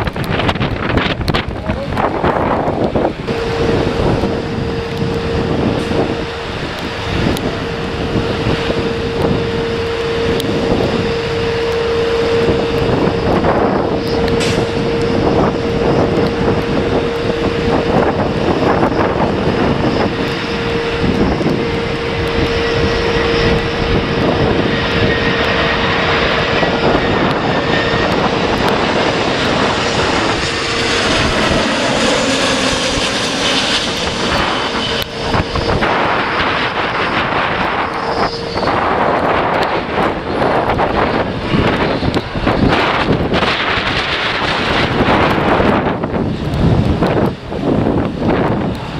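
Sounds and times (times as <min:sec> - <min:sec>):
jet engines whining: 0:00.0 - 0:48.9
wind noise on microphone: 0:00.0 - 0:48.9.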